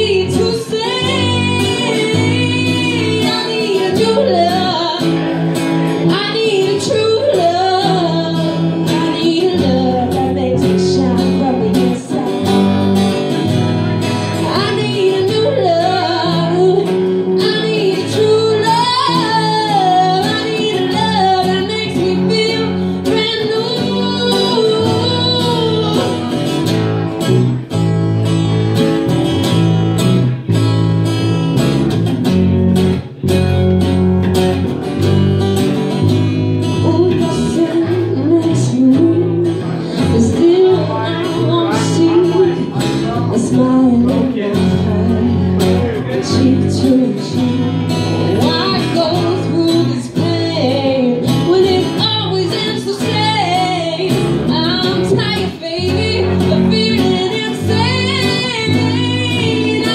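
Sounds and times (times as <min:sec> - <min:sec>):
woman singing: 0:00.0 - 0:27.5, 0:36.0 - 0:59.9
acoustic guitar strumming: 0:00.0 - 0:59.9
electric bass: 0:07.0 - 0:59.9.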